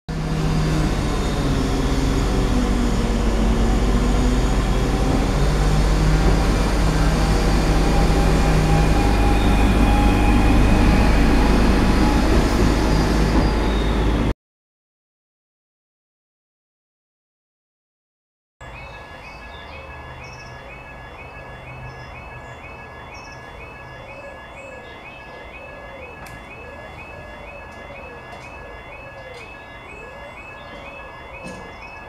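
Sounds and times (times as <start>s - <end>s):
humming and whining tones: 0.1s - 14.3s, 19.0s - 32.0s
railcar engine rumble: 0.1s - 14.3s, 18.6s - 32.0s.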